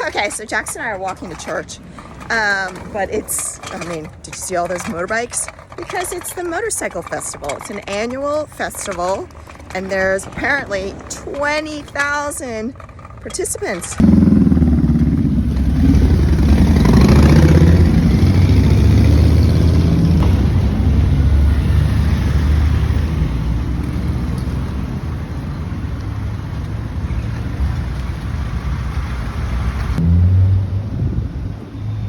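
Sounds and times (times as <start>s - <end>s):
motorcycle engines running: 0.0s - 32.0s
motorcycle revving and passing: 0.0s - 32.0s.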